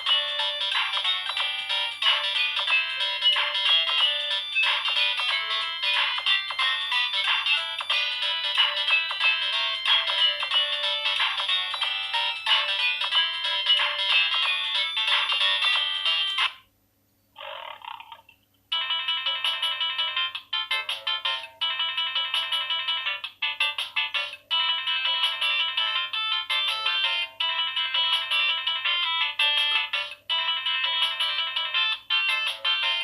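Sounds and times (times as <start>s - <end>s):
mobile phone ringtone melodies: 0.0s - 16.6s, 18.7s - 33.0s.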